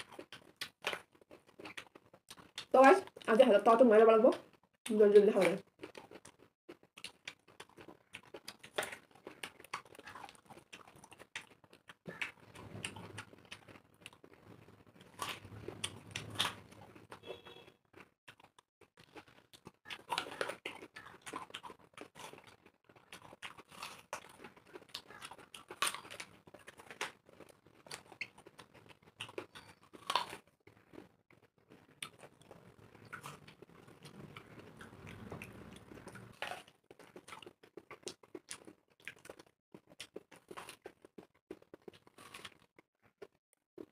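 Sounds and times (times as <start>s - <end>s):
people crunching apples: 0.0s - 3.5s, 4.3s - 43.9s.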